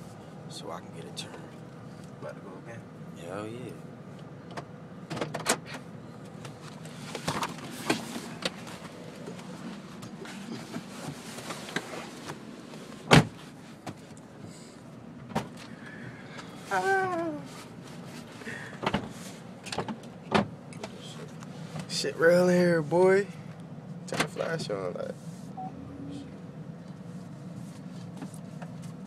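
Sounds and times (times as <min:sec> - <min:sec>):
car engine and road hum: 0:00.0 - 0:29.0.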